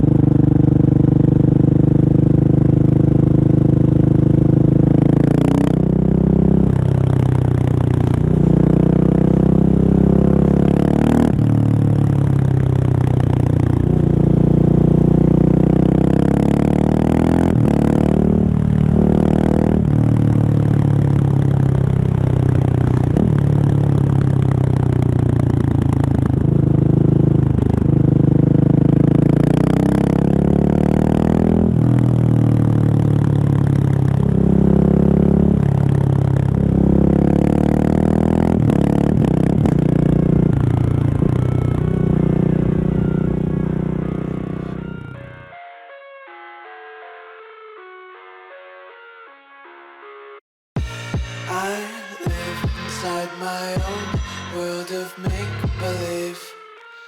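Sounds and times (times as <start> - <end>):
motorcycle engine running: 0.0 - 45.2, 52.2 - 53.0, 55.3 - 56.2.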